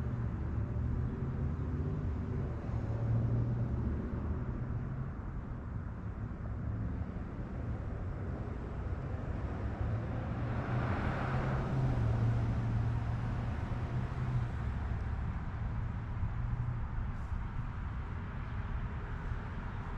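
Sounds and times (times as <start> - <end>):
street traffic: 0.0 - 19.9.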